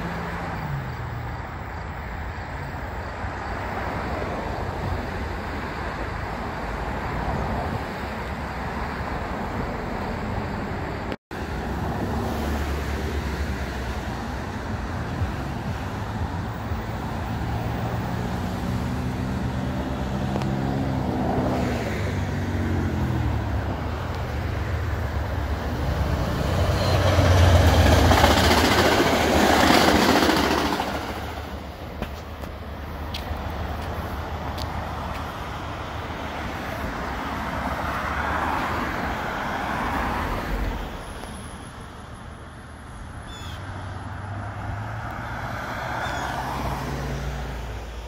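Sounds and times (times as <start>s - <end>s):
cars and trucks passing: 0.0s - 48.0s
passenger train on tracks: 0.0s - 48.0s.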